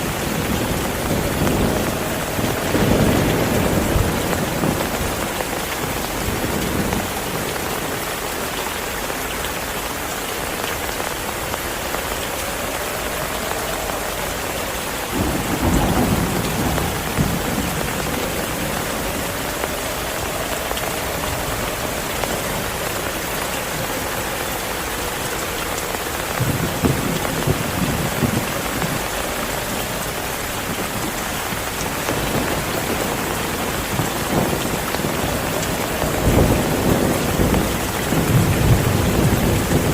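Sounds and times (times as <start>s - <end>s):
thunder rumbling: 0.0s - 8.4s, 10.2s - 39.9s
heavy rain: 0.0s - 39.9s.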